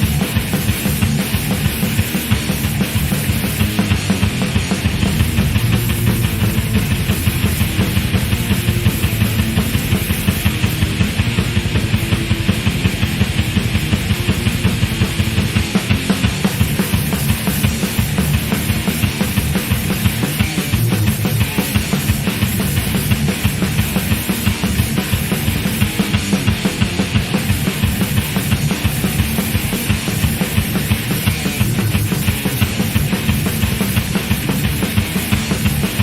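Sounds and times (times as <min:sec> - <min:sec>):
instrumental thrash metal: 0:00.0 - 0:36.0.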